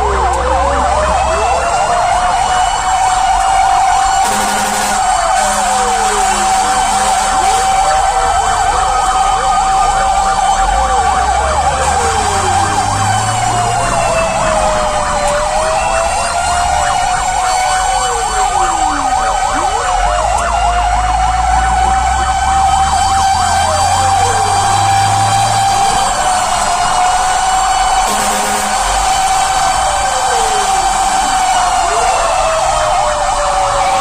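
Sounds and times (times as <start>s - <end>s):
fire engine sirens: 0.0s - 34.0s
truck engine rumbling: 0.0s - 34.0s.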